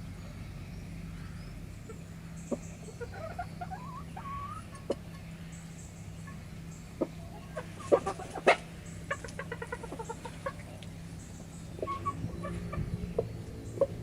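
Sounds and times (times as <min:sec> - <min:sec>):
low steady hum: 0:00.0 - 0:14.0
chickens clucking: 0:01.6 - 0:14.0.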